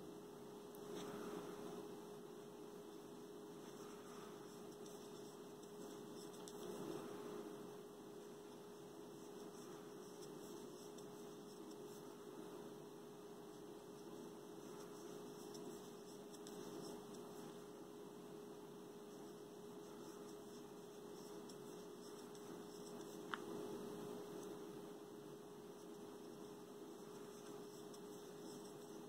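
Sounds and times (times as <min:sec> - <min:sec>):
faint electrical hum: 0:00.0 - 0:29.0
low hiss: 0:00.0 - 0:29.0.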